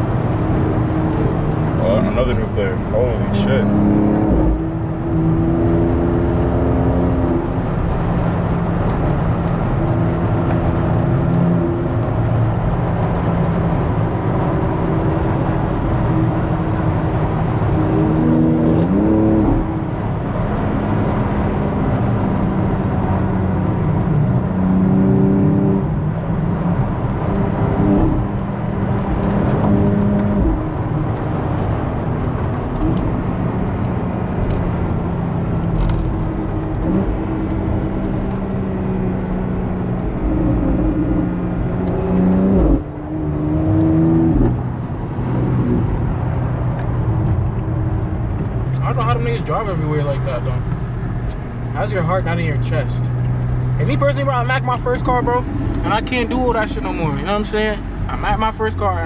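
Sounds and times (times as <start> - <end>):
car engine running: 0.0 - 59.0
road rumble: 0.0 - 59.0.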